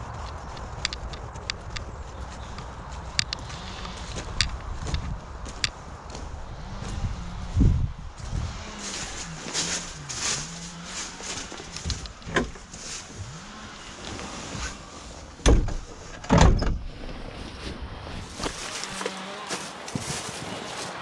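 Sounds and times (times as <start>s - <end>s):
engine droning: 0.0s - 16.2s, 16.8s - 21.0s.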